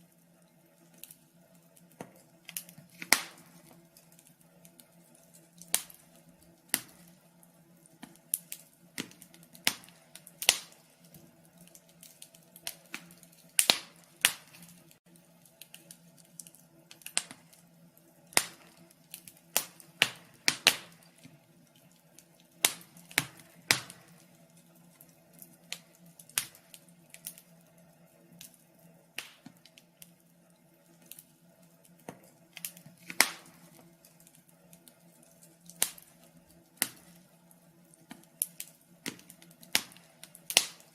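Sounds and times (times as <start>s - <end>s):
low steady hum: 0.0s - 40.9s
wood fire crackling: 0.0s - 40.9s.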